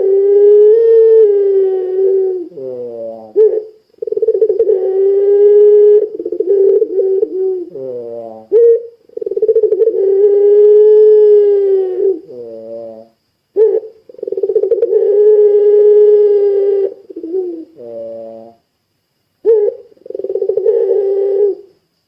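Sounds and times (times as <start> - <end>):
dove cooing: 0.0 - 18.6, 19.4 - 21.8.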